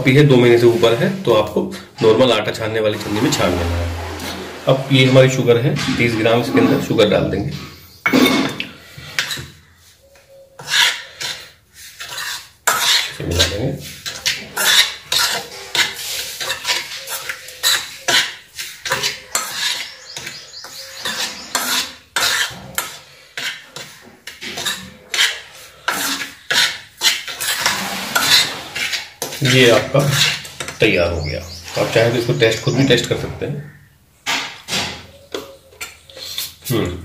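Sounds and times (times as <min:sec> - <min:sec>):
spoon scraping metal pan: 0:00.0 - 0:36.7.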